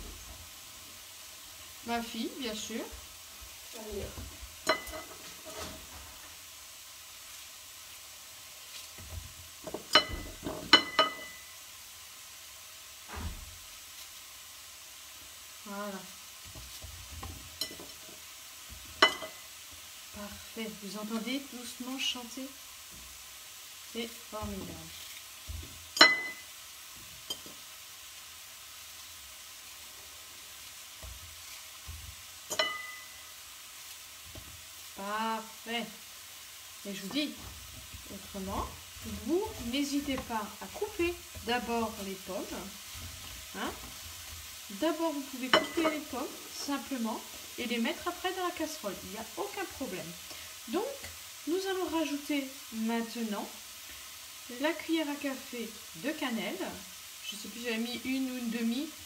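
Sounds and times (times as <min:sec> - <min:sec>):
apples sizzling in a frying pan: 0:00.0 - 0:59.0.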